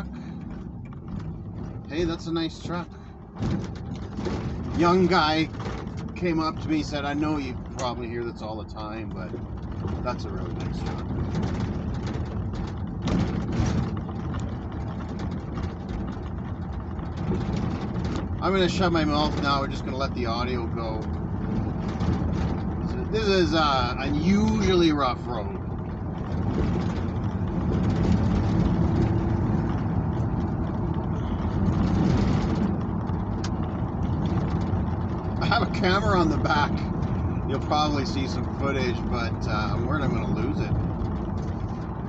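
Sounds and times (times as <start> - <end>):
engine and road rumble: 0.0 - 42.0
truck rattles and clunks: 0.0 - 42.0.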